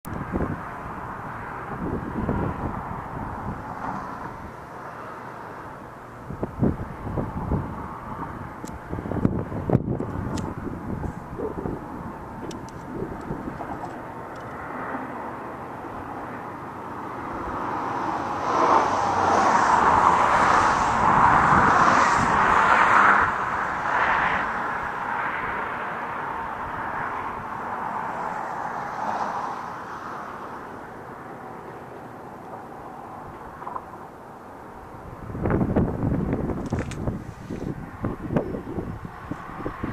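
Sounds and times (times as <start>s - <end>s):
vehicle passing on bridge: 0.1s - 39.9s.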